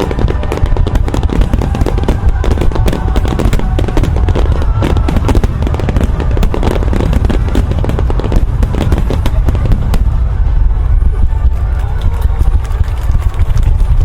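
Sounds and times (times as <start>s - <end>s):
fireworks cracking and banging: 0.0s - 14.0s
low rumble: 0.0s - 14.0s.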